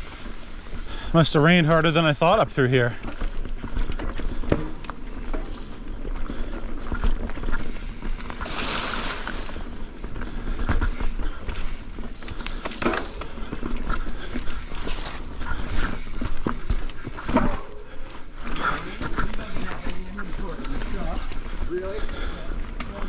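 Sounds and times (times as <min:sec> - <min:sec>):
bike tyres on rough trail: 0:00.0 - 0:23.0
bike rattling and knocking: 0:01.4 - 0:23.0.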